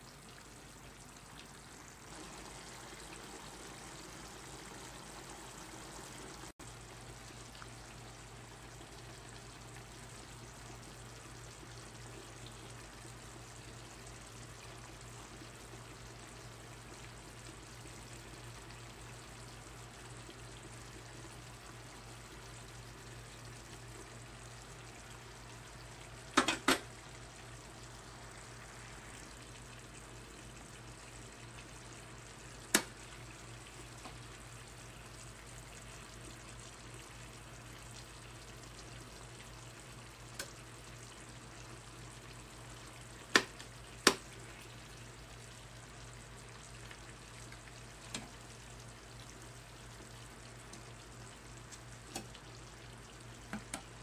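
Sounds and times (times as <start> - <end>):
food sizzling in a frying pan: 0.3 - 54.0.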